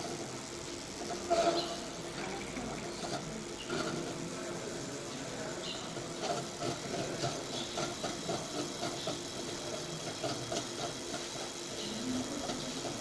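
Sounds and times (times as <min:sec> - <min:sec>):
buzzing chatter of laser: 0:00.0 - 0:13.0
laser marking machine humming: 0:00.0 - 0:13.0.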